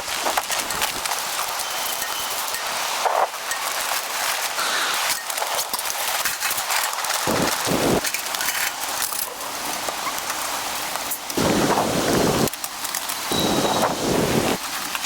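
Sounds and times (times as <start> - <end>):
storm rain pattering hiss: 0.0 - 15.0.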